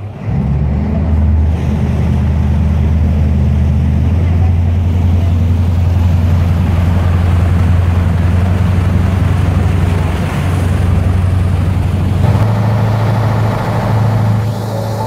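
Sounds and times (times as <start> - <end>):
boat diesel engine droning: 0.0 - 15.0
churning propeller wash: 0.0 - 15.0.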